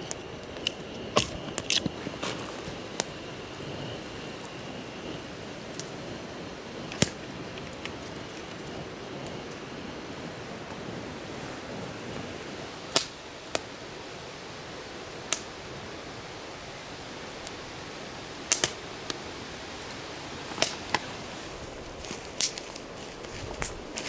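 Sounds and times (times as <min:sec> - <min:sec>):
campfire crackling and popping: 0:00.0 - 0:24.0
steady rushing background: 0:00.0 - 0:24.0.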